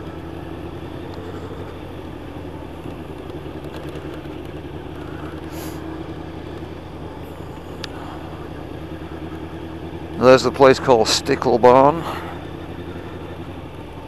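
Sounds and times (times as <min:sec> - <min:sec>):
motorcycle engine cruising: 0:00.0 - 0:14.0
wind and road noise: 0:00.0 - 0:14.0.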